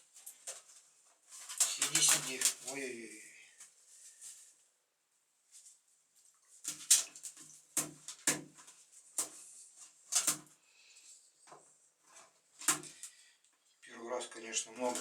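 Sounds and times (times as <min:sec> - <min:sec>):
bird scuffling and splashing: 0:00.0 - 0:03.0, 0:03.6 - 0:04.6, 0:05.5 - 0:13.3, 0:14.7 - 0:15.0.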